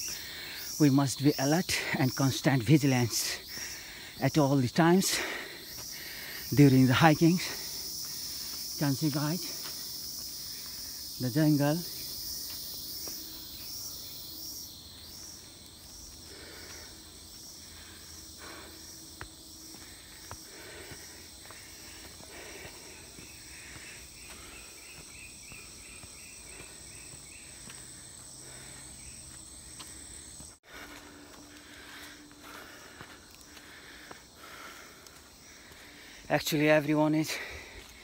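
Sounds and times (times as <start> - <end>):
insects buzzing: 0.0 - 38.0
rapid pulsing insect call: 0.0 - 38.0.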